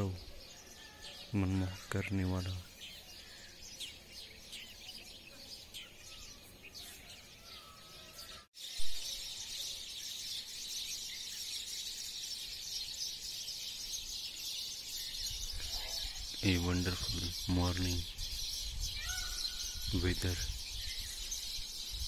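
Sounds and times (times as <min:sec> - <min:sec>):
chorus of birds chattering: 0:00.0 - 0:22.0
small birds chirping: 0:00.0 - 0:22.0.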